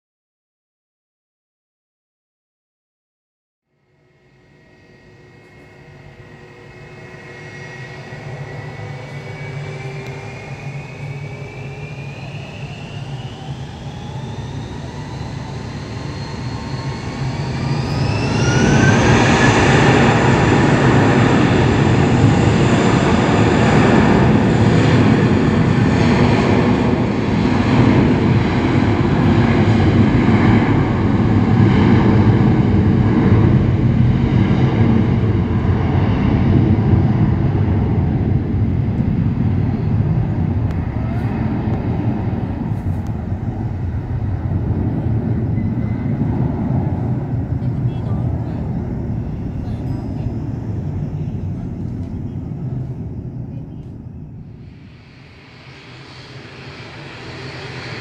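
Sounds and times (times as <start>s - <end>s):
jet engines roaring: 3.9s - 58.0s
jet engines spooling up: 3.9s - 58.0s.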